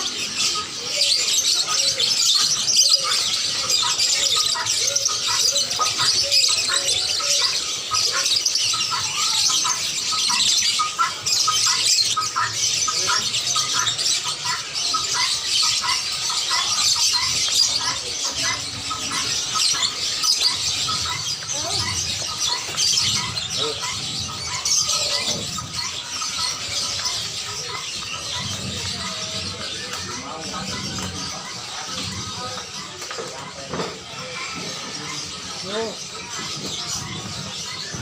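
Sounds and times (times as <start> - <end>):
caged birds chirping and squawking: 0.0 - 38.0.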